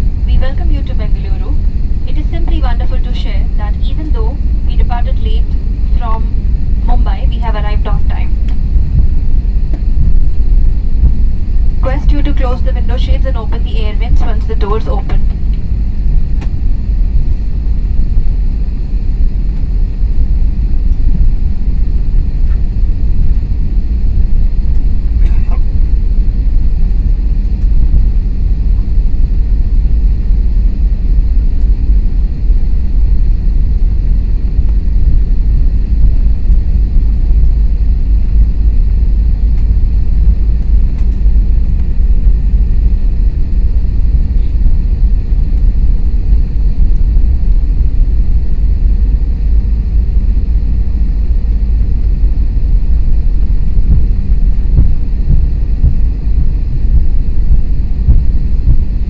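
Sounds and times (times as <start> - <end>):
airplane cabin rumble while taxiing: 0.0 - 59.0.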